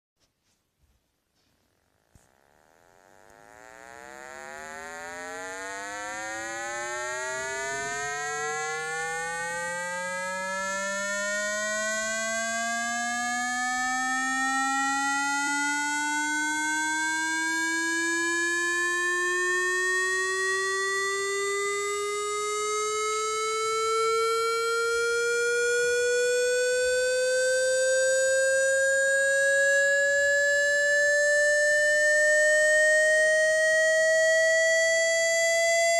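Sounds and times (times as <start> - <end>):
electronic tone rising in pitch: 2.0 - 35.9.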